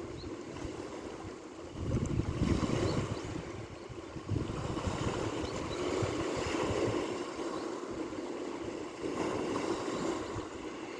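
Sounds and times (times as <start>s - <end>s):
ocean surf washing on shore: 0.0s - 10.9s.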